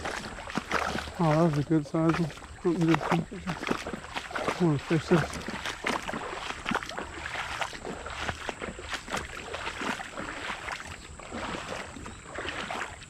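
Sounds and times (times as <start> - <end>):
creek water splashing: 0.0 - 13.0.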